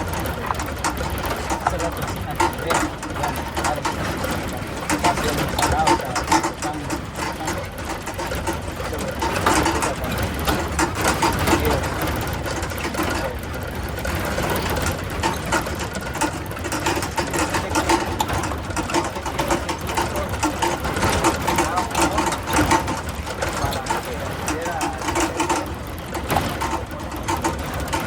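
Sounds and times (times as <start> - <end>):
small engine rattling: 0.0 - 28.0.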